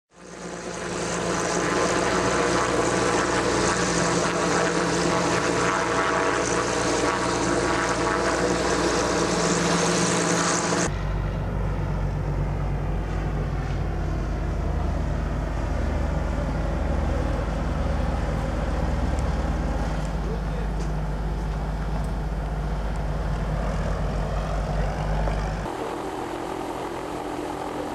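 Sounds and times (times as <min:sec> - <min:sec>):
airship propeller engines droning: 0:00.2 - 0:27.9.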